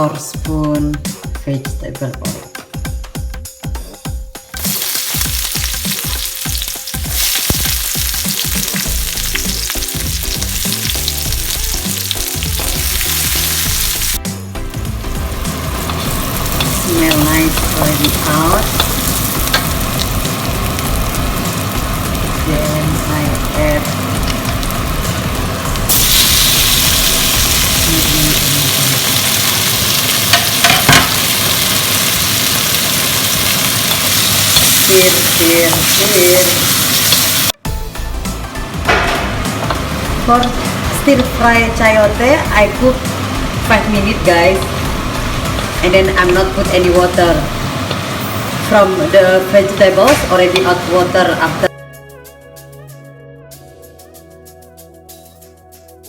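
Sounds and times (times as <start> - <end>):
food sizzling in oil: 4.5 - 37.6, 38.8 - 51.7.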